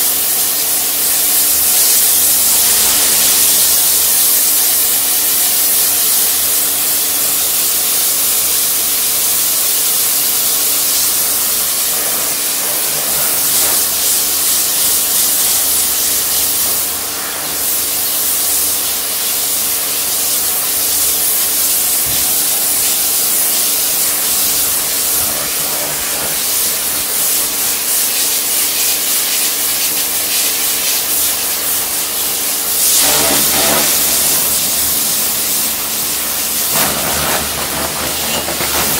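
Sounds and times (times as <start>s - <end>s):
pressure washer jet hissing: 0.0s - 38.9s
pump motor hum: 0.0s - 38.9s.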